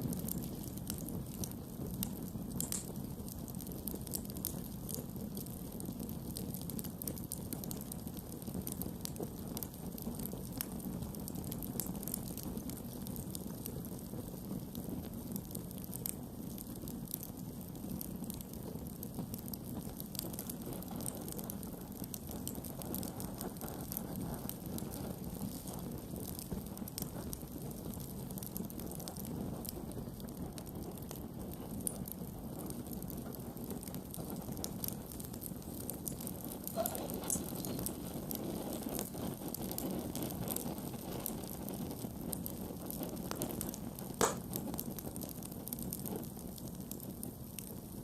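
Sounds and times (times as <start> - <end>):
campfire rumble: 0.0 - 48.0
fire crackling and popping: 0.0 - 48.0.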